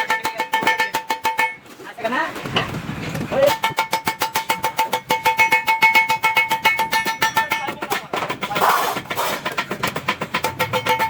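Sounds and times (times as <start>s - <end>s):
hammering on metal sheet: 0.0s - 1.7s, 2.5s - 11.0s.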